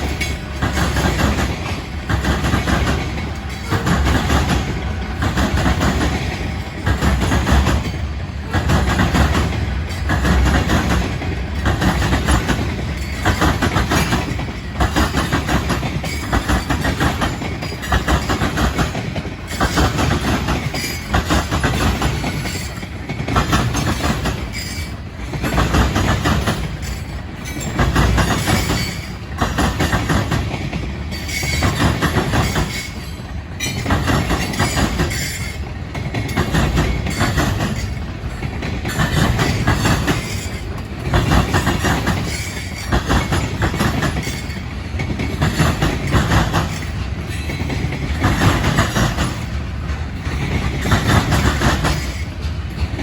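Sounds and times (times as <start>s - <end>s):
train wheels clacking over rail joints: 0.0s - 53.0s.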